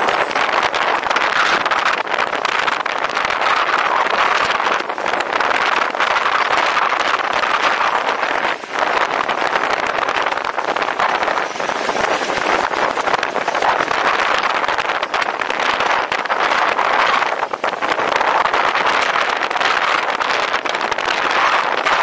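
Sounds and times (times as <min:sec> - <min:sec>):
wheel noise: 0:00.0 - 0:22.0
wind rushing: 0:00.0 - 0:22.0.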